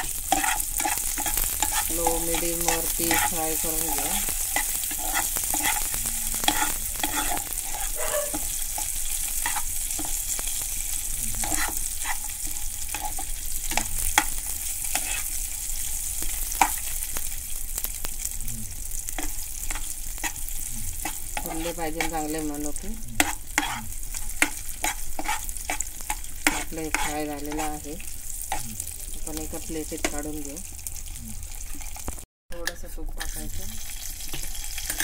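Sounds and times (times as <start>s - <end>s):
steel spoon scraping pan: 0.0s - 17.0s, 19.1s - 28.6s, 33.2s - 35.0s
nuts sizzling in ghee: 0.0s - 35.0s.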